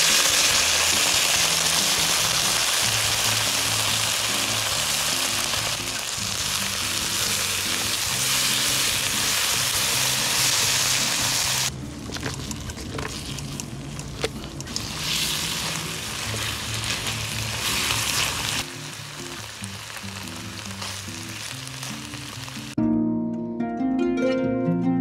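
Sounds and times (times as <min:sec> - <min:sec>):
sauce sizzling in a wok: 0:00.0 - 0:12.4, 0:14.7 - 0:22.8
soft background music: 0:00.0 - 0:25.0.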